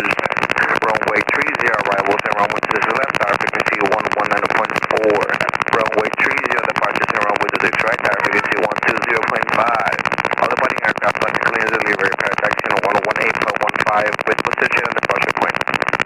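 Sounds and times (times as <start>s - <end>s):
voices over radio intercom: 0.0s - 15.7s
helicopter noise: 0.0s - 16.0s.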